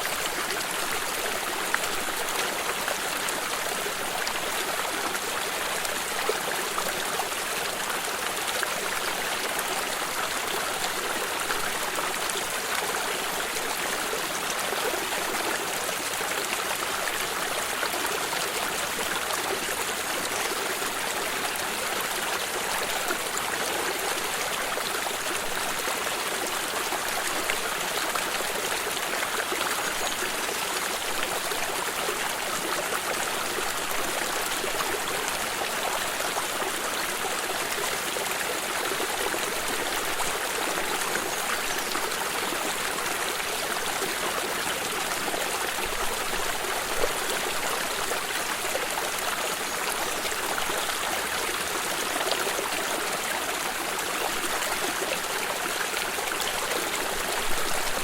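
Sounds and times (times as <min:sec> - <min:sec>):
water stream over stones: 0:00.0 - 0:58.0.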